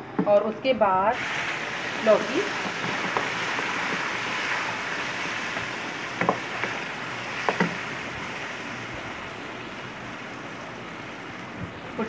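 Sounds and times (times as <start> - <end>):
hot oil sizzling: 0.8 - 12.0.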